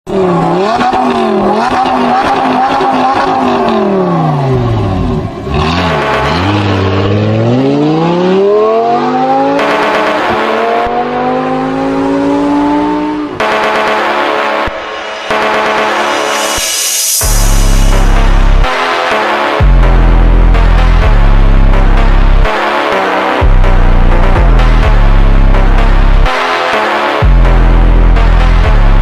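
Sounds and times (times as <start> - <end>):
car engine revving: 0.1 - 29.0
slowed reverb-heavy phonk music: 0.1 - 29.0.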